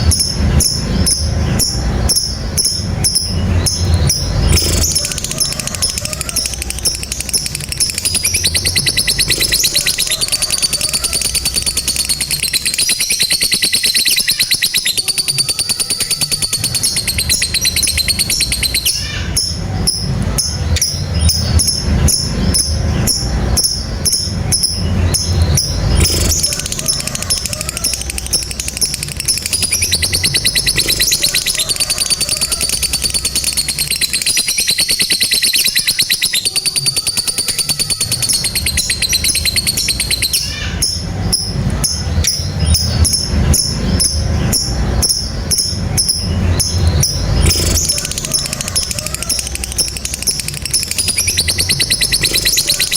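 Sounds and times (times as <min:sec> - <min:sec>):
lovebirds chattering trill: 0:00.0 - 0:52.9.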